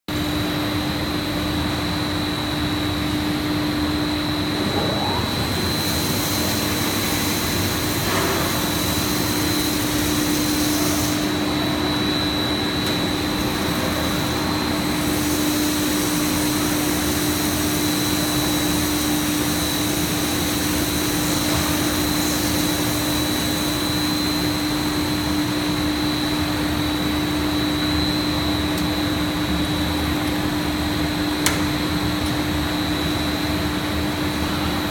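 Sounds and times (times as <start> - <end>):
machinery drone with high whine: 0.1 - 34.9.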